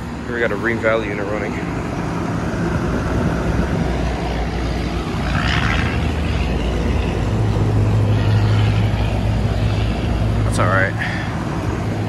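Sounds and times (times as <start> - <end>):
air conditioner fan noise: 0.0 - 12.0
compressor hum: 0.0 - 12.0.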